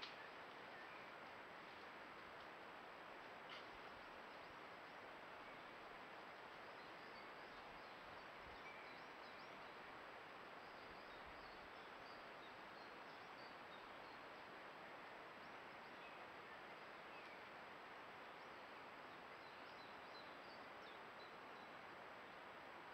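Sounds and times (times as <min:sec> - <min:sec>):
microphone hiss: 0:00.0 - 0:22.9.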